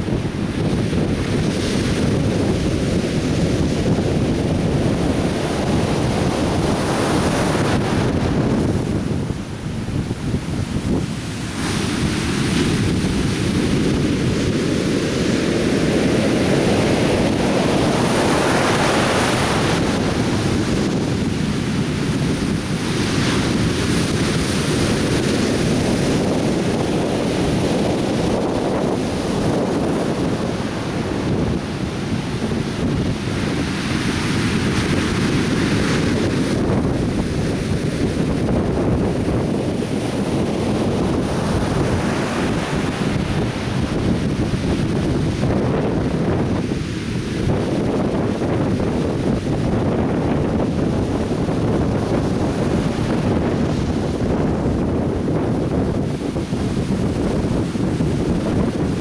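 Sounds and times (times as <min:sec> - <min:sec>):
surf breaking on a beach: 0:00.0 - 0:59.0.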